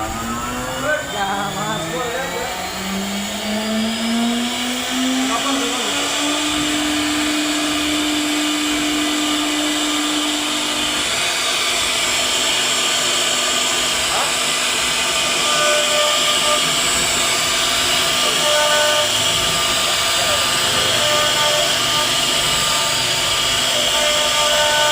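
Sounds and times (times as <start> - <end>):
router motor whine: 0.0 - 24.9
wood cutting hiss: 0.0 - 24.9.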